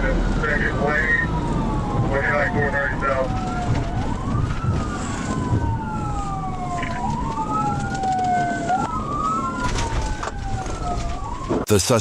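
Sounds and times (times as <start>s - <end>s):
second siren wail: 0.0s - 11.6s
police siren wailing: 0.0s - 11.7s.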